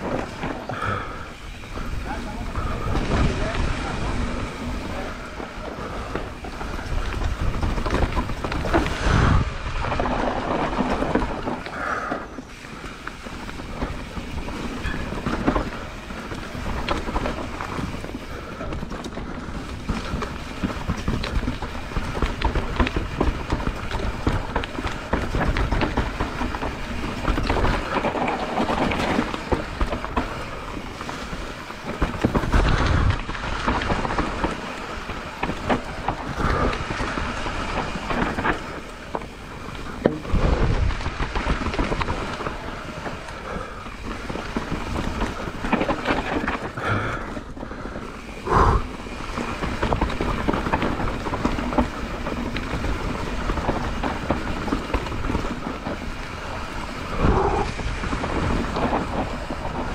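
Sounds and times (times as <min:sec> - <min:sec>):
bike rattling: 0:00.0 - 0:59.9
tyre and wind rush: 0:00.0 - 0:59.9.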